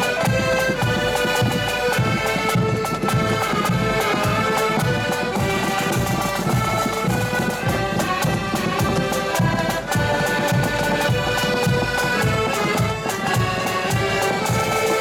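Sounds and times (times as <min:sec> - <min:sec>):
accordion band playing march: 0:00.0 - 0:15.0
drum beating march time: 0:00.0 - 0:15.0.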